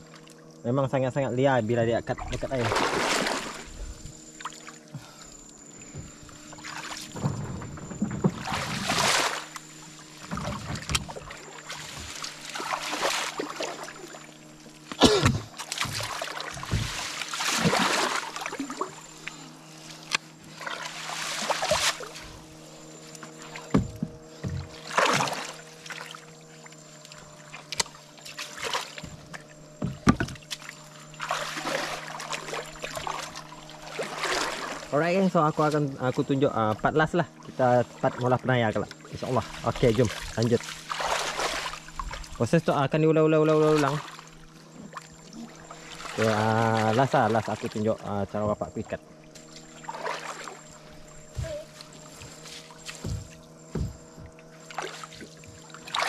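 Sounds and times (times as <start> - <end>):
muddy water splashing: 0.0 - 56.0
steady low hum: 0.0 - 56.0.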